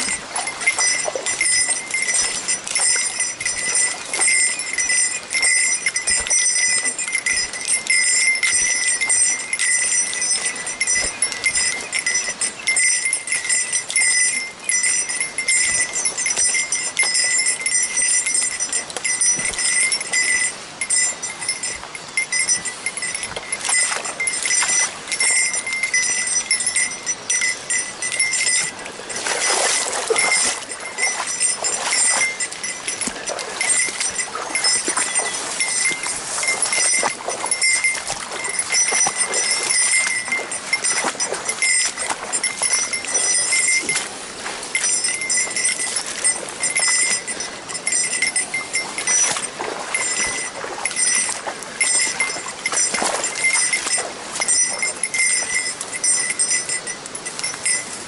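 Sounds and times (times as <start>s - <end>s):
small metal bell jingling: 0.0s - 58.0s
stream water rushing: 0.0s - 58.0s.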